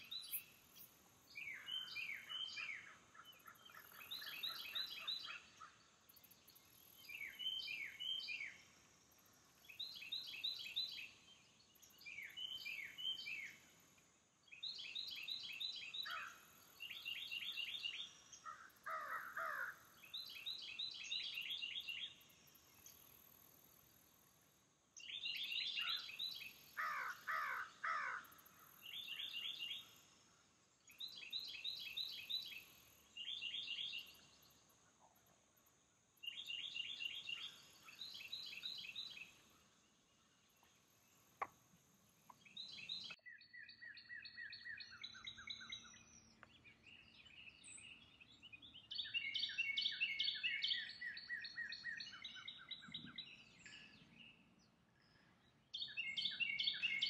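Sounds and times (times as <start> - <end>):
birds singing: 0.0 - 13.7, 14.4 - 23.3, 25.0 - 30.2, 30.8 - 35.6, 36.2 - 41.6, 42.2 - 57.0
faint high insect drone: 0.0 - 57.0.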